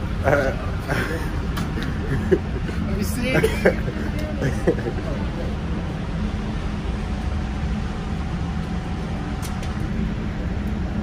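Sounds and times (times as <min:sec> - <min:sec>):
steady low rumbling: 0:00.0 - 0:11.0.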